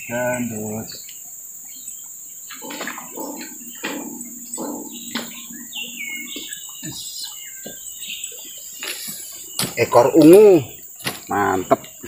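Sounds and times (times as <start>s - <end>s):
bird chirps: 0.0s - 11.0s
crickets chirping: 0.0s - 12.0s.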